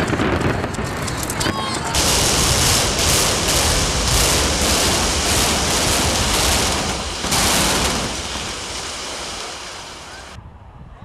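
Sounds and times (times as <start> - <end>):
building collapse roar: 0.1 - 10.4.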